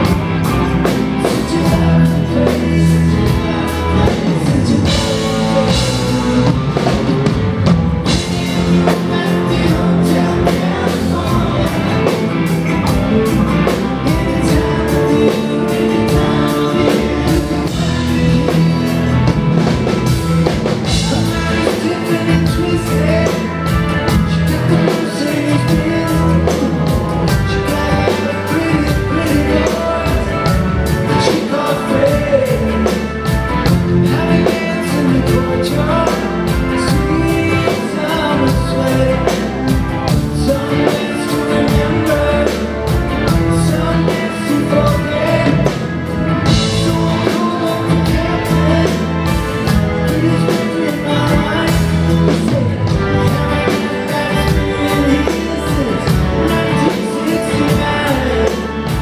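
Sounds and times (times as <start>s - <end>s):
drum kit: 0.0s - 59.0s
electric guitars: 0.0s - 59.0s
keyboards: 0.0s - 59.0s
lead vocal: 0.0s - 59.0s.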